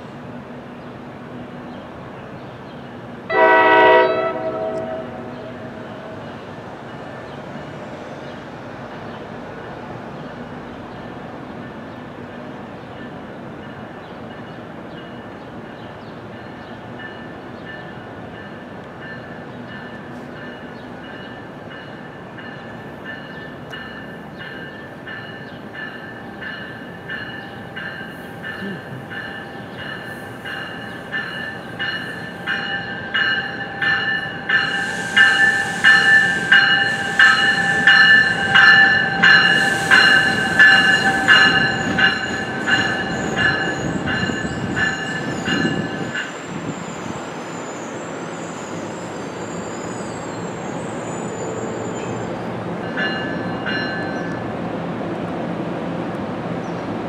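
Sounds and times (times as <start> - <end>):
train whine: 0.0 - 57.0.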